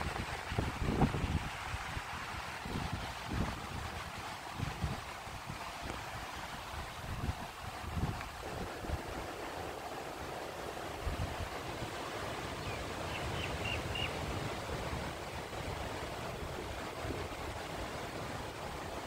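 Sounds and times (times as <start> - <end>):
wind buffeting microphone: 0.0 - 9.7, 10.9 - 19.0
sea surf rushing: 0.0 - 19.0.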